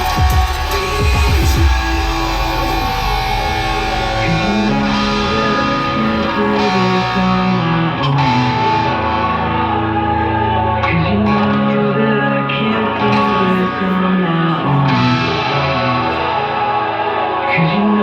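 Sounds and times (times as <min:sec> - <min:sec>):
electric guitar holding notes: 0:00.0 - 0:18.0.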